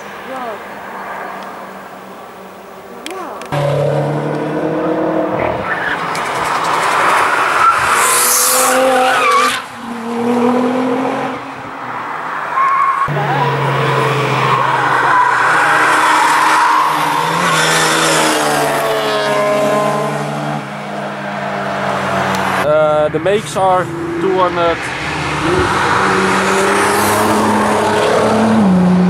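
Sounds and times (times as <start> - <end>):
race cars revving past: 3.5 - 29.0.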